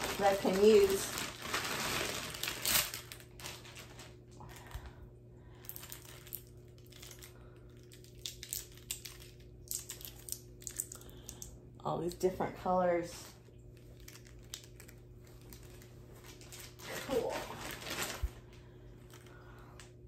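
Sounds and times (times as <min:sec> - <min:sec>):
plastic packaging crinkling: 0:00.0 - 0:04.9, 0:05.5 - 0:11.5, 0:13.6 - 0:20.0.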